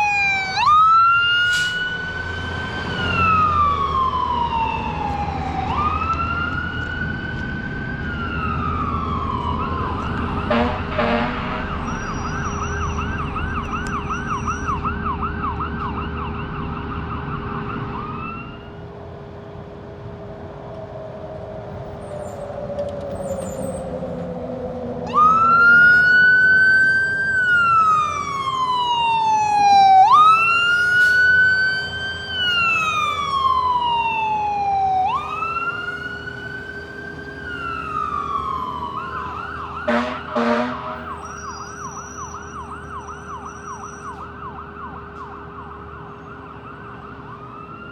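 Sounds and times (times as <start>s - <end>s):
fire engine siren: 0.0s - 47.9s.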